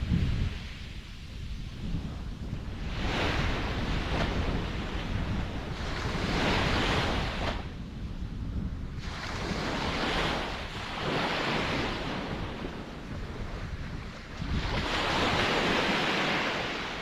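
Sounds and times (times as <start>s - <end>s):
waves washing in: 0.0s - 17.0s.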